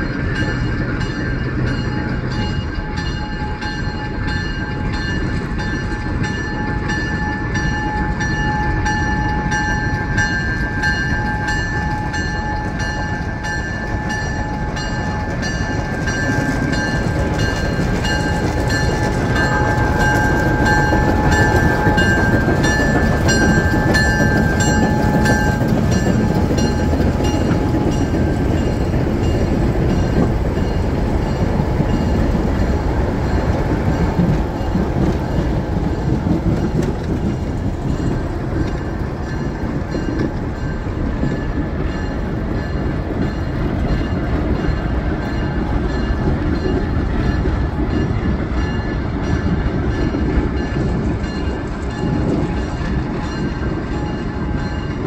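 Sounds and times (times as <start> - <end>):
train wheels on rail: 0.0 - 55.0.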